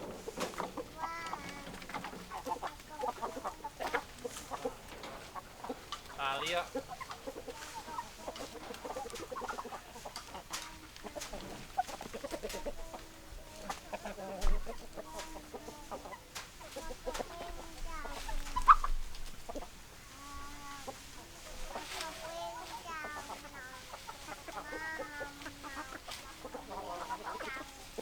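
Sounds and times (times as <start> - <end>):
hens clucking: 0.0 - 28.0.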